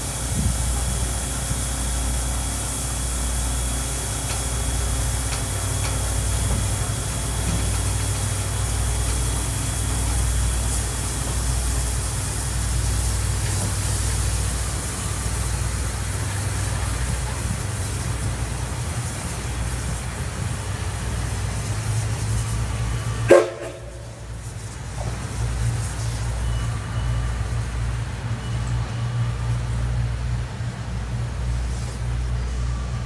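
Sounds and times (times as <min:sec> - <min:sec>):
steam locomotive rumbling: 0:00.0 - 0:33.0.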